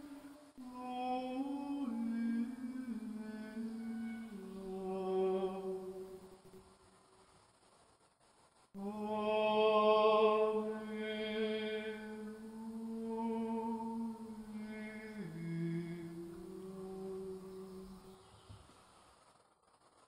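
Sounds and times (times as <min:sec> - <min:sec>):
voices chanting slow melody: 0:00.0 - 0:06.9, 0:08.8 - 0:18.3.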